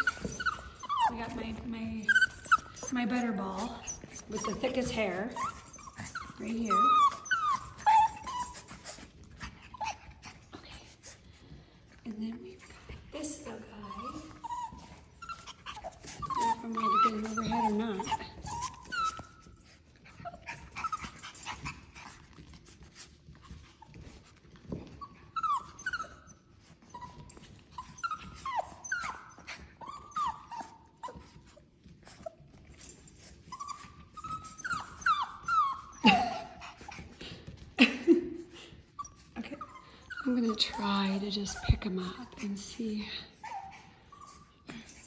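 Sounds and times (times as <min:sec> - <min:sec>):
puppies whining and yipping: 0:00.0 - 0:11.8, 0:12.6 - 0:37.8, 0:38.4 - 0:45.0.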